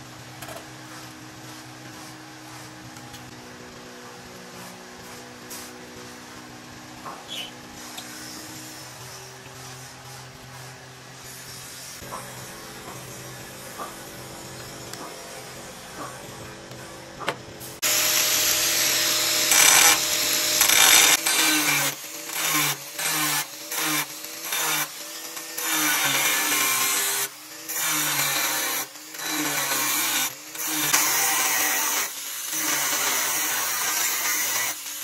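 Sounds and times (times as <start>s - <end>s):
angle grinder cutting steel plate: 0.5s - 16.2s, 17.8s - 35.0s.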